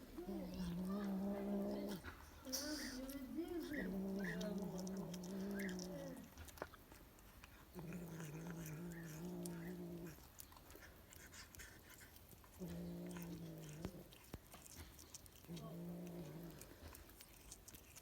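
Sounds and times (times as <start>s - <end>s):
cat growling: 0.0s - 6.5s, 7.4s - 18.0s.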